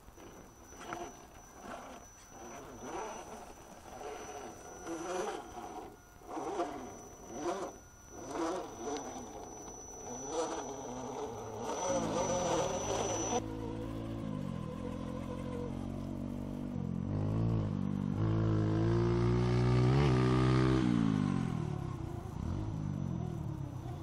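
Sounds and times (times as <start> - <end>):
thin high whine: 0.0 - 16.8, 20.7 - 24.0
electric motor and gears whining: 0.0 - 24.0.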